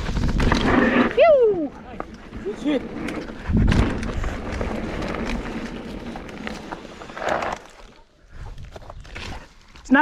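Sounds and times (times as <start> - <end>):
bike tyres crunching over dirt: 0.0 - 10.0.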